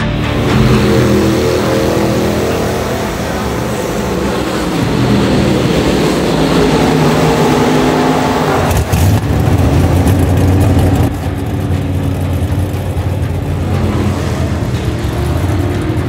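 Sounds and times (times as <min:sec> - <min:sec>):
racing car engine running: 0:00.0 - 0:16.0.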